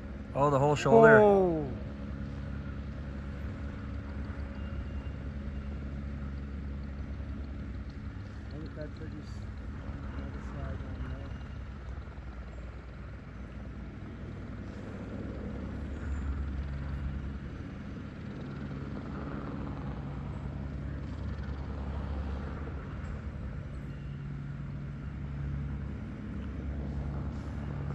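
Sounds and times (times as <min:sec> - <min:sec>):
helicopter engine and rotor drone: 0:00.0 - 0:27.9.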